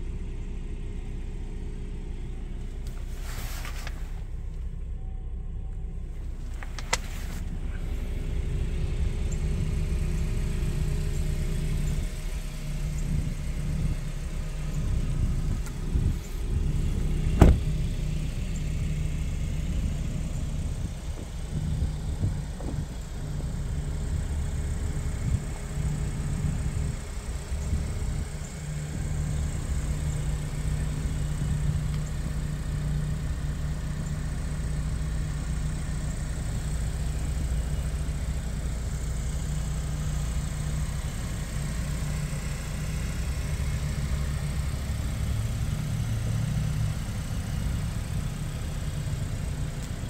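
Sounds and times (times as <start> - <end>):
car engine and road rumble: 0.0 - 50.0.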